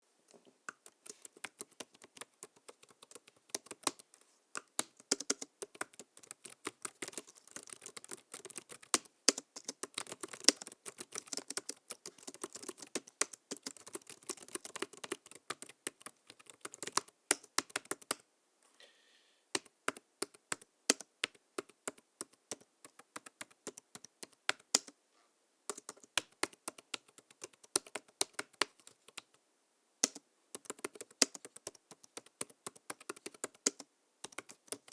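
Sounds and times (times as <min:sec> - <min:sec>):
laptop keyboard typing: 0:00.7 - 0:18.2, 0:19.5 - 0:25.0, 0:25.7 - 0:29.4, 0:30.0 - 0:34.9.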